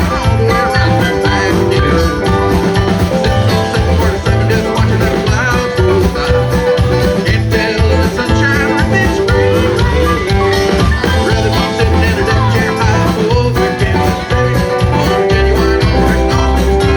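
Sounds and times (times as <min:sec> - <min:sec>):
live band music: 0:00.0 - 0:16.9
pulsing bass line: 0:00.0 - 0:16.9.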